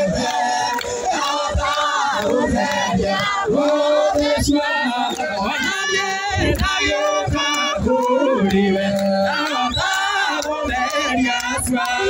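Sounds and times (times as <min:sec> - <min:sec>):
crowd singing a worship song: 0:00.0 - 0:12.0
hand clapping: 0:00.2 - 0:12.0.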